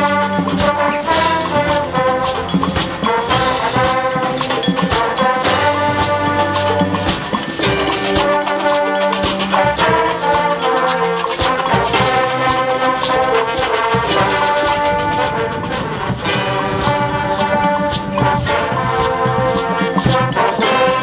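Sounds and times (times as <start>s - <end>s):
brass chords: 0.0s - 21.0s
sharp percussion hits: 0.0s - 21.0s.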